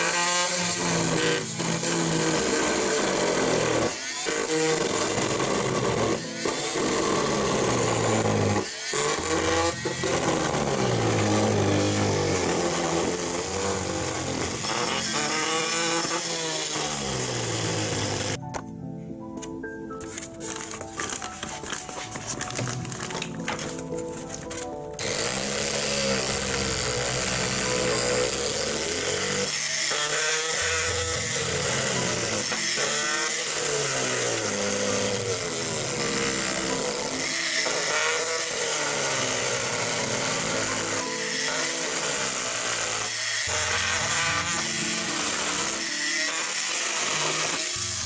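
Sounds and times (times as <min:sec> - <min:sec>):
oscillating tool cutting board: 0:00.0 - 0:18.4, 0:25.0 - 0:48.0
background music: 0:00.0 - 0:48.0.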